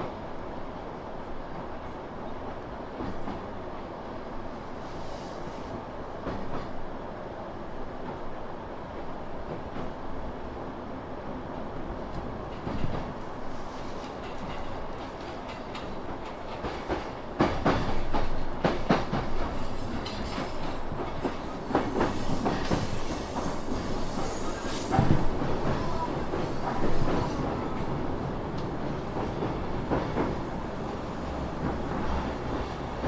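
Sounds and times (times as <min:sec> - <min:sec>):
train rumbling from inside carriage: 0:00.0 - 0:33.0.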